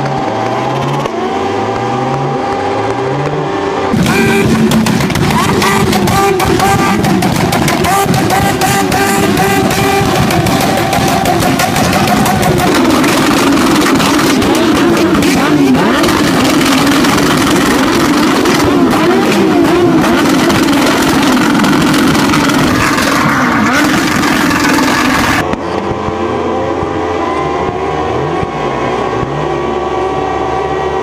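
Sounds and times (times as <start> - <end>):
motorcycle engines revving high: 0.0 - 31.0.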